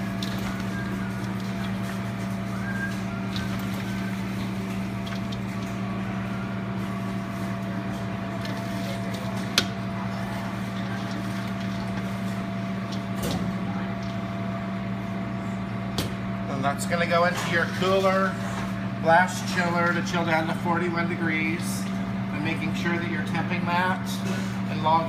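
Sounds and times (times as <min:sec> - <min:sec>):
kitchen equipment humming: 0:00.0 - 0:25.0.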